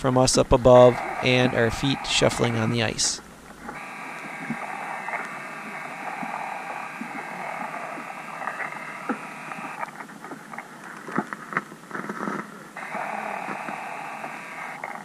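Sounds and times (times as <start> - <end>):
small motor buzzing underwater: 0.0 - 15.0.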